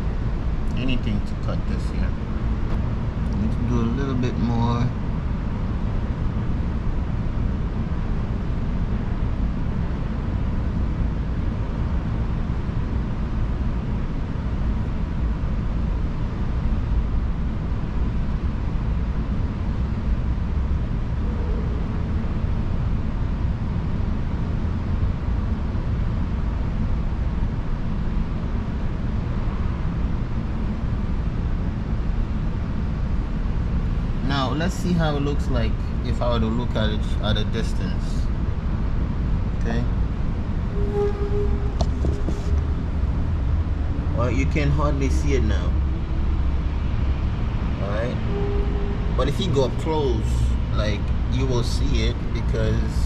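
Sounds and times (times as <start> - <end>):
low rumbling outdoor background: 0.0 - 53.0.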